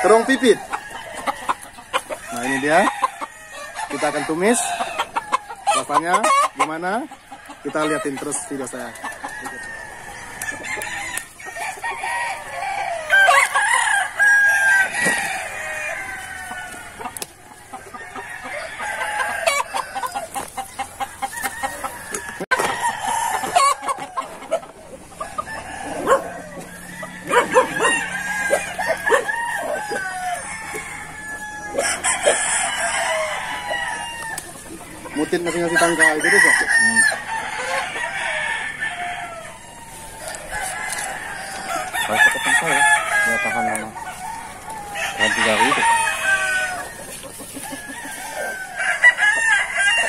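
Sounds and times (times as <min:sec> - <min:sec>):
rooster crowing: 0:00.0 - 0:06.5, 0:07.5 - 0:50.0
chickens clucking: 0:00.0 - 0:50.0.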